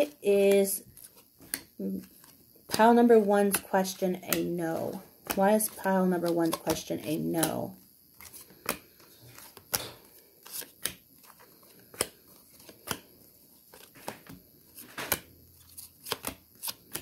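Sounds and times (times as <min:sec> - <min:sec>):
cards shuffled by hand: 0:00.4 - 0:17.0.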